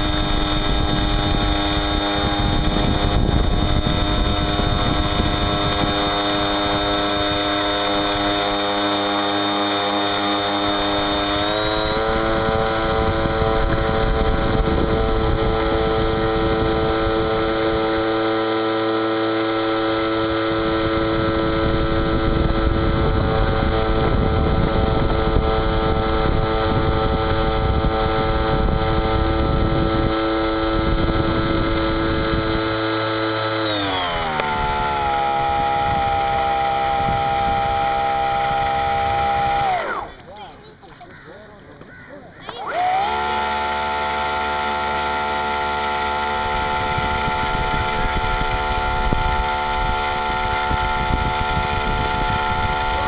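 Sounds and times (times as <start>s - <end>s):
model boat motor whining: 0.0s - 53.0s.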